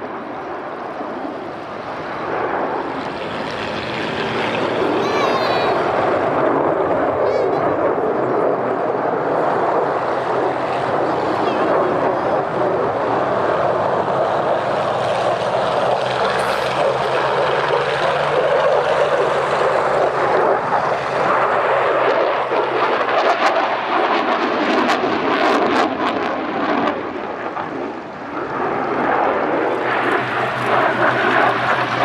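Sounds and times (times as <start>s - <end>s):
fighter jet engine roar: 0.0s - 32.0s.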